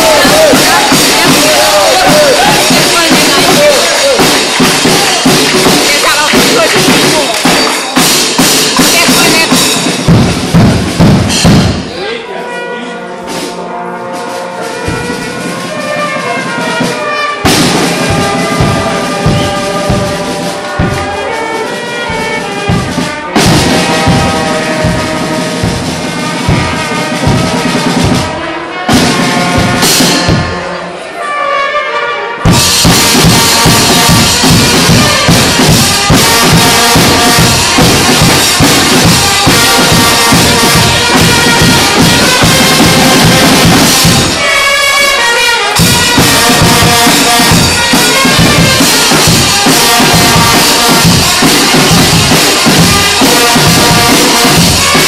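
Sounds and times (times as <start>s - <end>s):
drum beats: 0.0s - 12.6s, 13.2s - 31.2s, 32.3s - 55.0s
brass band playing: 0.0s - 55.0s.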